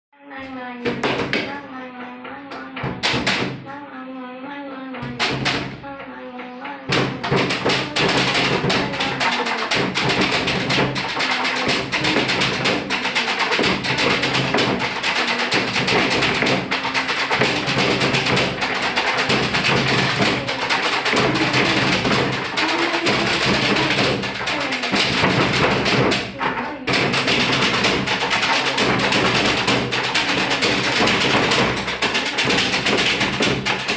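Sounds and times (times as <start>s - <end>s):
hands beating on wooden desks: 0.8s - 3.7s, 4.9s - 33.9s
boys chanting: 4.5s - 33.4s.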